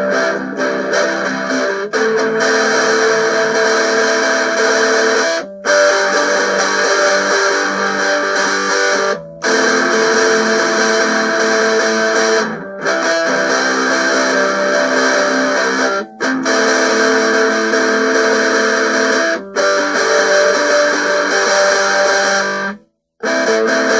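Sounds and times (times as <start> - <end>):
guitar strumming chords: 0.0 - 23.9.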